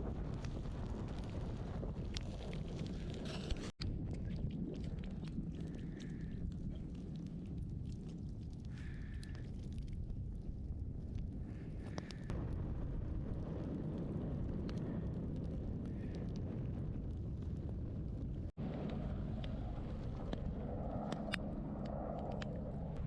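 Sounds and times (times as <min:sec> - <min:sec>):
bonfire crackling and popping: 0:00.0 - 0:23.0
low rumble: 0:00.0 - 0:23.0.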